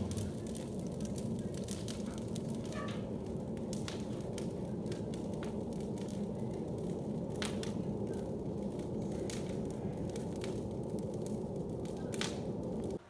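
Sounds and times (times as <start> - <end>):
bonfire crackling: 0.0 - 13.0.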